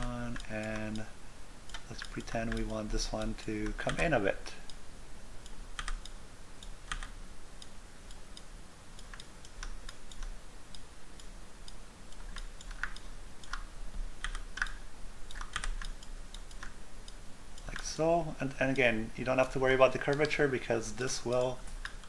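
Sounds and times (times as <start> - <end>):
keyboard and mouse clicks: 0.0 - 1.1, 1.7 - 4.2, 5.8 - 7.2, 8.1 - 18.0, 18.7 - 22.0
faint low hum: 0.0 - 22.0.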